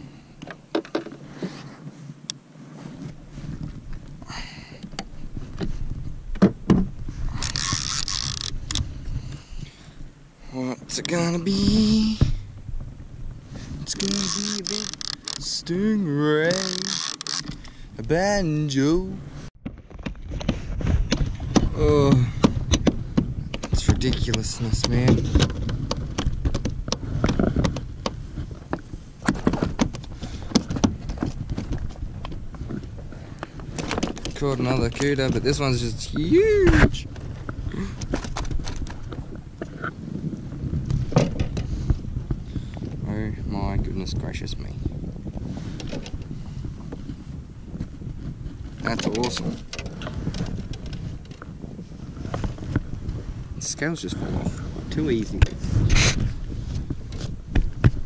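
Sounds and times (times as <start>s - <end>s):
low rumble of kayak on water: 0.0s - 18.2s, 18.9s - 58.0s.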